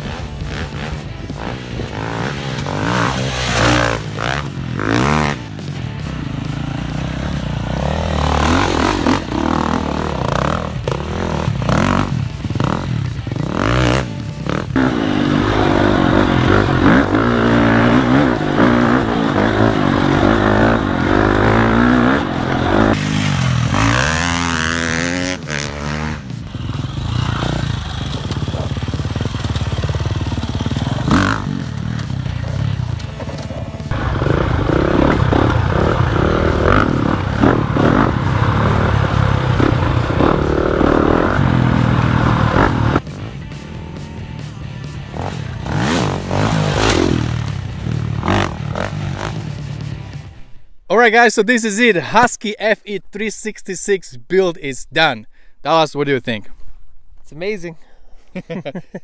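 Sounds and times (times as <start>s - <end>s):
dirt bike engines revving: 0.0s - 50.4s.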